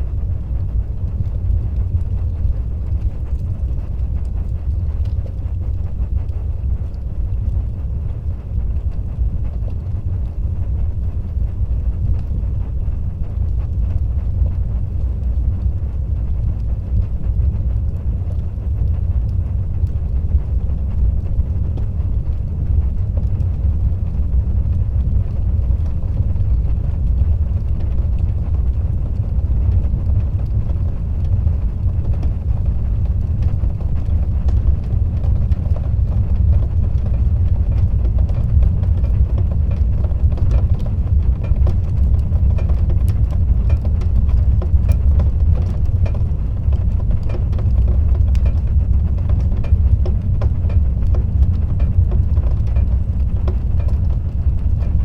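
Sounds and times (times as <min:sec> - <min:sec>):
fire roaring in fireplace: 0:00.0 - 0:55.0
fire crackling and popping: 0:00.1 - 0:55.0.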